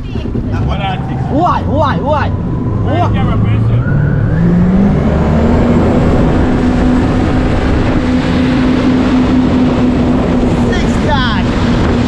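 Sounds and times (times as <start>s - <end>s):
jet ski engine revving: 0.5s - 12.0s.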